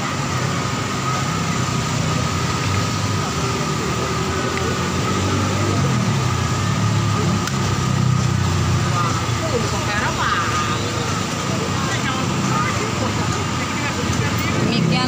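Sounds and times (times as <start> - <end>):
engine-like hum with high whine: 0.0 - 15.0.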